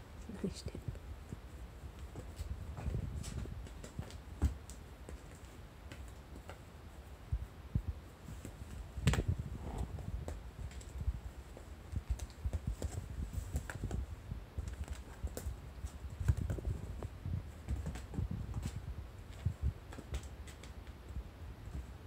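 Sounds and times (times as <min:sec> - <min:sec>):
kittens' paws tapping and thumping: 0:00.0 - 0:22.0.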